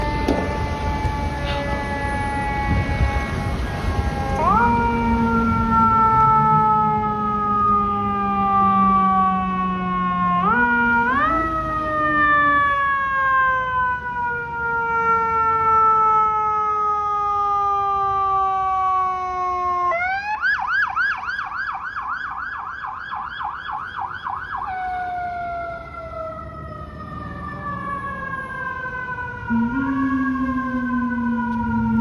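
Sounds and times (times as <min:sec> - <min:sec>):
electronic siren yelp: 0:00.0 - 0:32.0
siren wail falling in pitch: 0:00.0 - 0:32.0.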